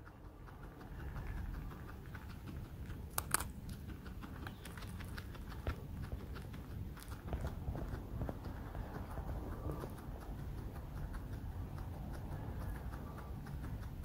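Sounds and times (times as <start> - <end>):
guinea pig chewing crunchy food: 0.0 - 14.0.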